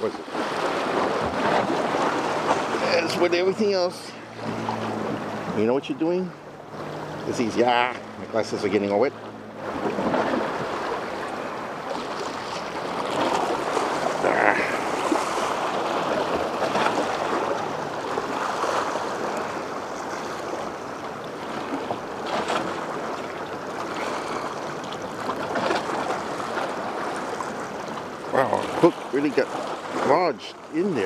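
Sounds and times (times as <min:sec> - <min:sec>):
ocean waves washing ashore: 0:00.0 - 0:31.0.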